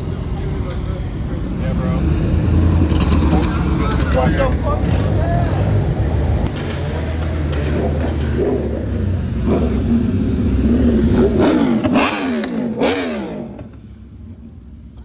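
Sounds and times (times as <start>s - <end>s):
car engine revving hard: 1.6s - 13.8s.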